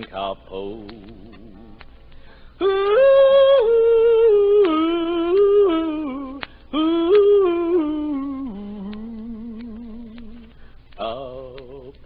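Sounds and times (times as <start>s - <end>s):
person humming wordless vocal: 0.0s - 1.9s, 2.6s - 12.0s.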